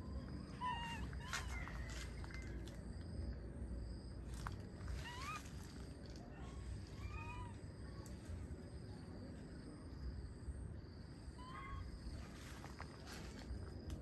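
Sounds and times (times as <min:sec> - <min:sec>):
high insect-like tone: 0:00.0 - 0:14.0.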